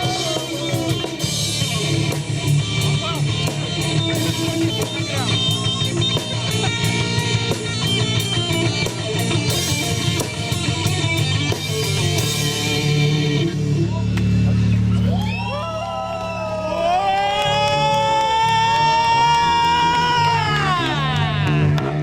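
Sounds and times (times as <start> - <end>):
rock band playing: 0.0 - 15.6, 16.3 - 22.0.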